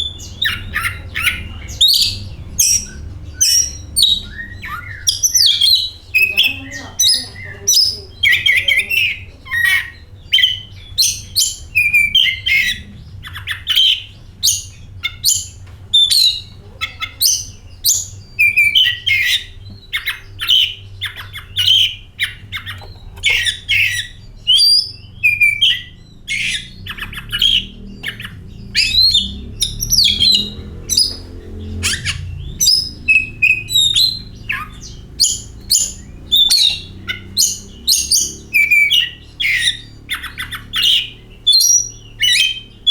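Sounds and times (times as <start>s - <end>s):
bird singing whistled chirping notes: 0.0s - 42.9s
faint low hum: 0.0s - 42.9s.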